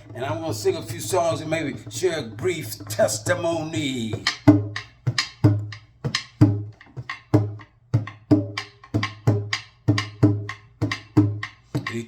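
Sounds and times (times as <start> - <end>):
small drum beaten in rhythm: 0.0 - 12.0.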